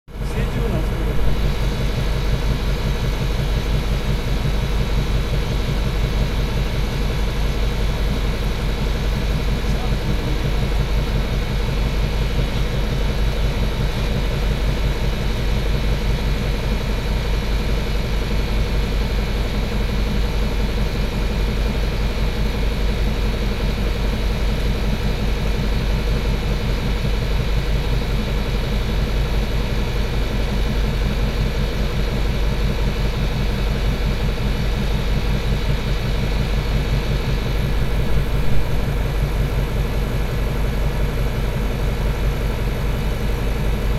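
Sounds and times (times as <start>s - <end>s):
machine humming and throbbing: 0.1s - 43.9s.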